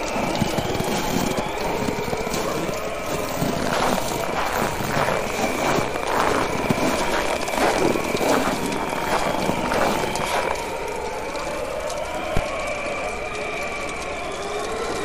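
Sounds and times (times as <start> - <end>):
bonfire crackling and popping: 0.0 - 15.0
faint whistling tone: 0.0 - 15.0.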